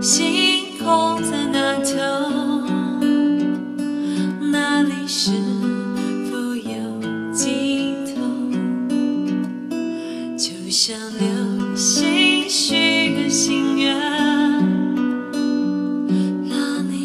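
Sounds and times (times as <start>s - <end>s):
acoustic guitar strumming: 0.0s - 17.0s
woman singing a slow ballad: 0.0s - 17.0s.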